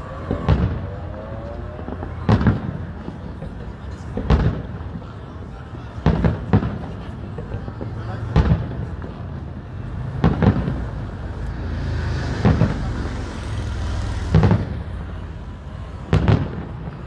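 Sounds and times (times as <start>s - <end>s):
fireworks booming: 0.0s - 5.2s, 6.0s - 17.0s.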